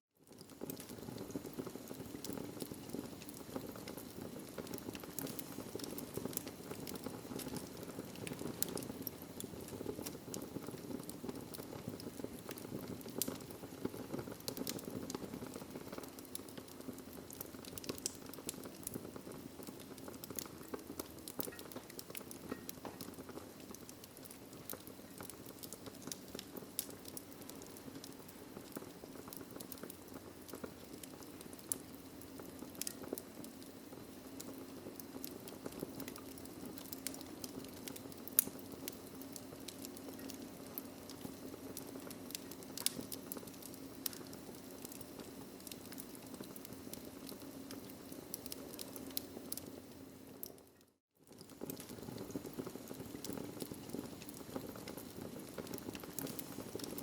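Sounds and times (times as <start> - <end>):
low rush of flames: 0.2 - 50.5, 51.4 - 57.0
wood fire crackling: 0.2 - 57.0.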